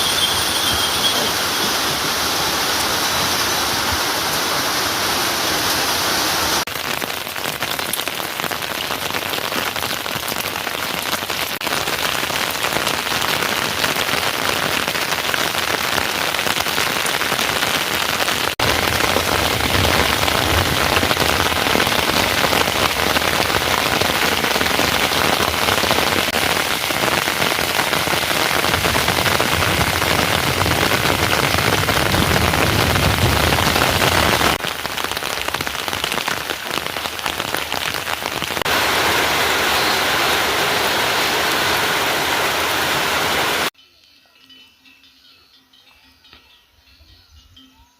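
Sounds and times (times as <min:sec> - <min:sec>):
heavy rain hissing: 0:00.0 - 0:43.7.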